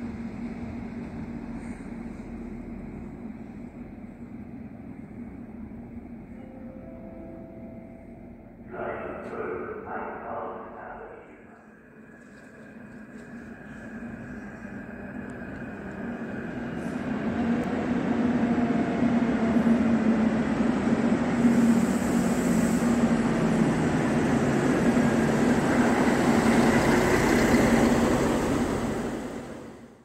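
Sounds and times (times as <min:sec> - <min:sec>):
railcar engine hum: 0:00.0 - 0:30.0.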